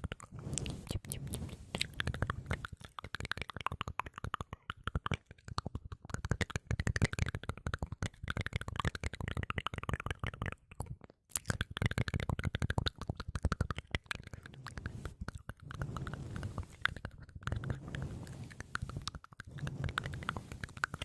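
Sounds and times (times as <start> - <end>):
wet mouth clicks and smacks: 0.0 - 21.0.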